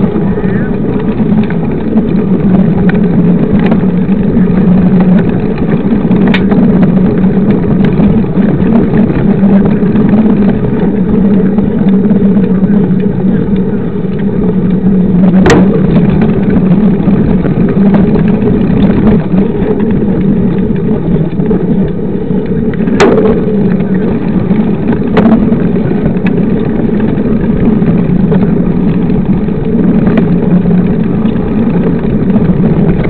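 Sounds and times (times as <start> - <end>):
bike clicking over bumps: 0.0 - 33.0
bike tyre rumbling on dirt: 0.0 - 33.0
wind on microphone: 0.0 - 33.0.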